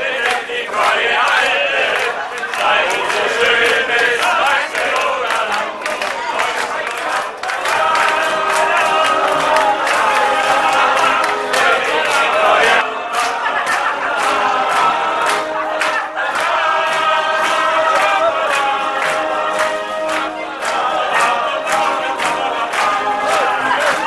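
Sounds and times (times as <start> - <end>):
group of voices singing: 0.0 - 24.0.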